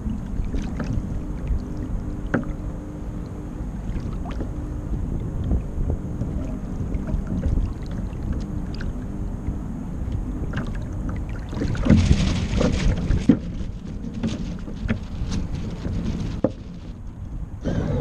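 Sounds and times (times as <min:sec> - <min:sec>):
small waves knocking: 0:00.0 - 0:17.4
water rushing against a hull: 0:00.0 - 0:18.0.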